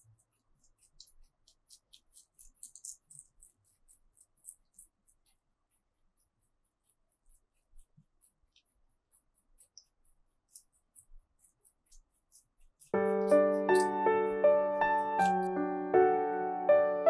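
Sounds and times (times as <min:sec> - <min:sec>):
rabbits chewing greens: 0:00.0 - 0:15.5.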